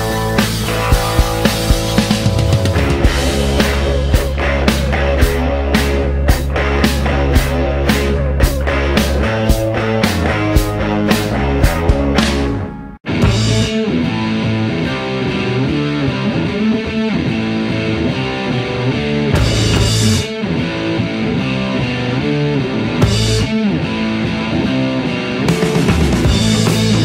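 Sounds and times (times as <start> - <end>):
rock music with electric guitar: 0.0 - 27.0.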